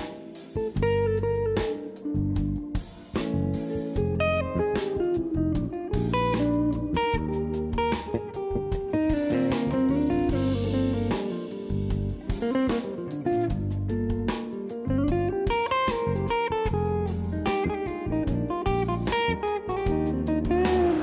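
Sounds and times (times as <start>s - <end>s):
guitar-led song: 0.0s - 21.0s.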